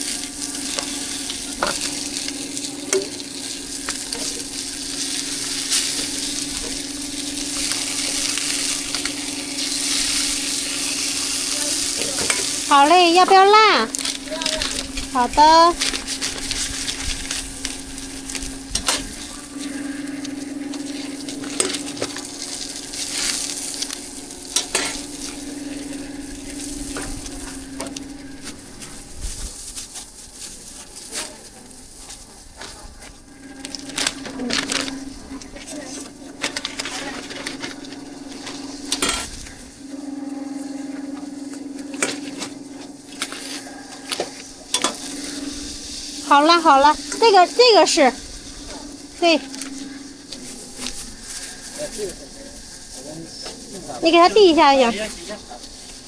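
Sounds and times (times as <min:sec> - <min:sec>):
metal utensils clanking on pan: 0:00.0 - 0:28.6, 0:33.3 - 0:39.5, 0:43.1 - 0:56.0
steady hum: 0:00.0 - 0:30.4, 0:31.9 - 0:56.0
pancake sizzling on griddle: 0:00.0 - 0:56.0.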